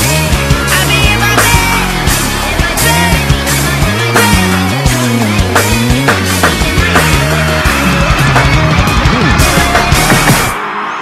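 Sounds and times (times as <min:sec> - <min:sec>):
heavy rock band playing: 0:00.0 - 0:11.0.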